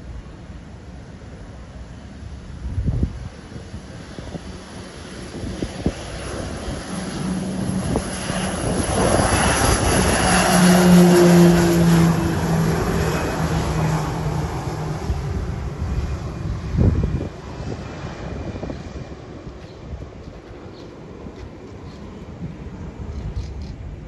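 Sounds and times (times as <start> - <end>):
turboprop plane taking off: 0.0 - 24.0.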